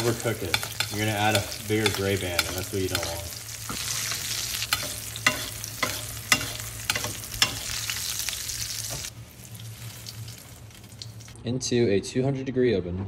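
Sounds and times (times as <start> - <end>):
butter sizzling in a pan: 0.0 - 11.4.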